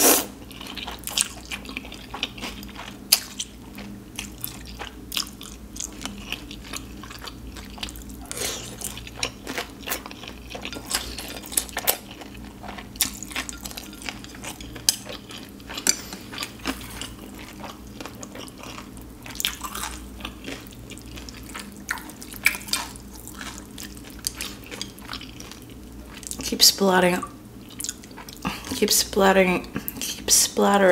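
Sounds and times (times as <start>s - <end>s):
chewing and wet mouth sounds: 0.0s - 28.9s.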